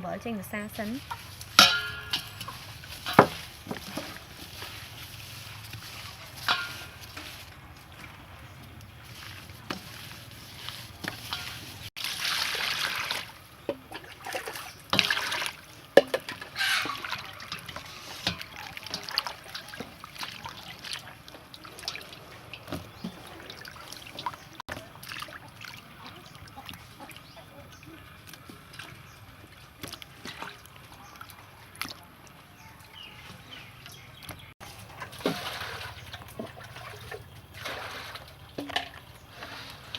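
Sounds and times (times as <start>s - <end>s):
water sloshing and splashing: 0.3s - 39.9s.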